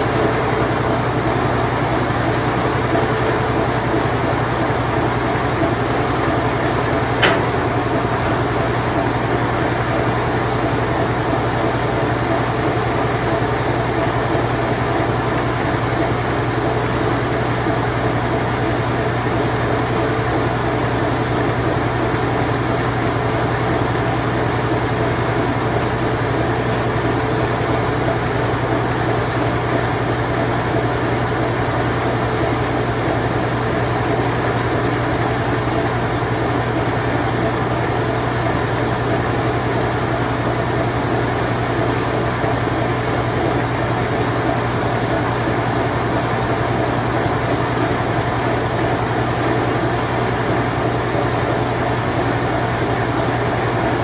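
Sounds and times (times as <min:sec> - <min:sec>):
washing machine spin cycle: 0:00.0 - 0:54.0.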